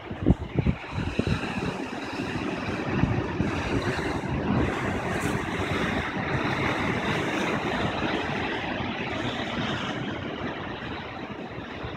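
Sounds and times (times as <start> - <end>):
surf breaking over rocks: 0.0 - 11.9.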